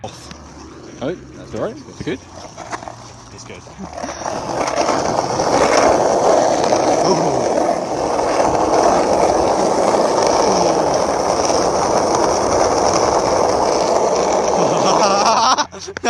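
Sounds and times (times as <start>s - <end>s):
skateboard wheels rolling on tarmac: 0.0s - 16.0s.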